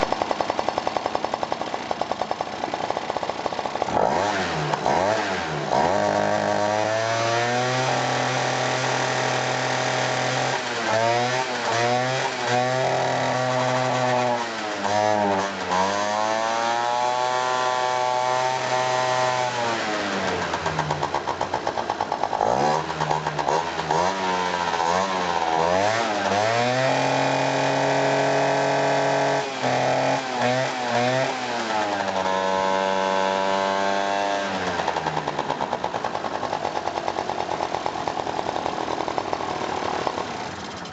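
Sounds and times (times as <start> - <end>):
scooter engine idling and revving: 0.0 - 40.9.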